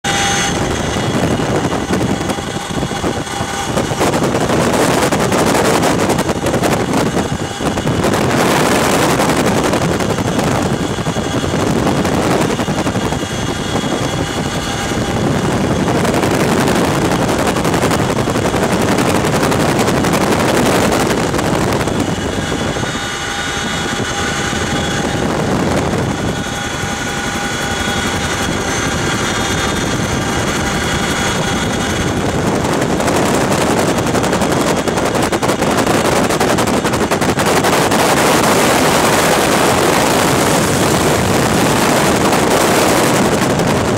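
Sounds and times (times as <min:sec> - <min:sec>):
helicopter rotors: 0:00.0 - 0:43.9
turbine whine: 0:00.0 - 0:43.9.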